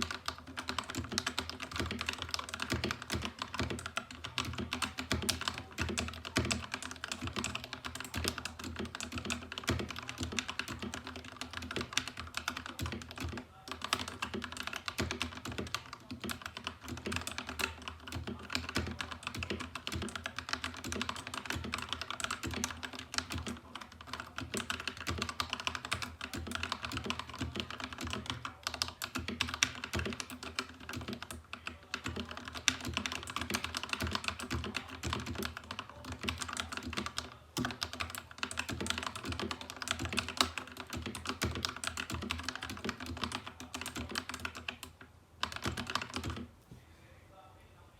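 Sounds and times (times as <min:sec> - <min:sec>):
fast typing on mechanical keyboard: 0:00.0 - 0:46.5.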